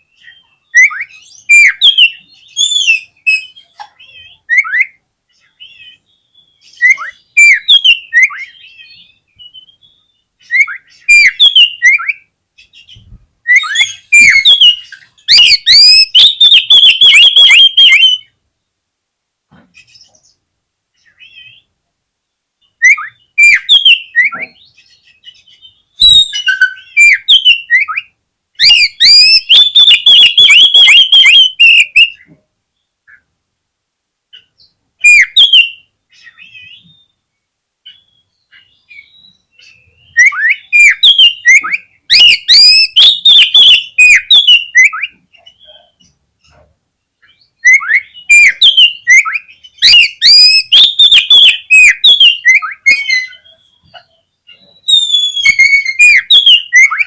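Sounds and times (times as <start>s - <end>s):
songbird whistling phrases: 0.1s - 18.4s, 22.6s - 32.3s, 34.6s - 37.2s, 37.8s - 45.9s, 47.2s - 57.0s.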